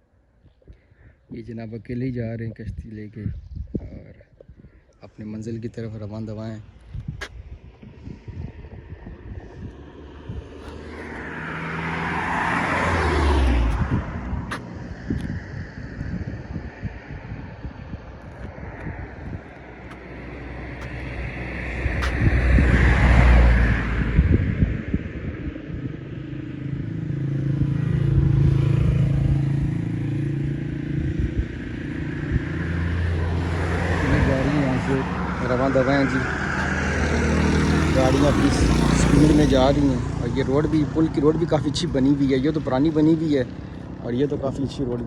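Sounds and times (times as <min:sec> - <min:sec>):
deeper engine drone: 0:05.7 - 0:45.0
motor vehicle passing by: 0:06.2 - 0:45.0.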